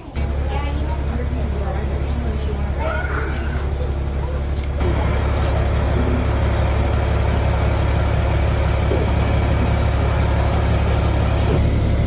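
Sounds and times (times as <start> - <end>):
truck engine deep rumble: 0.0 - 12.0.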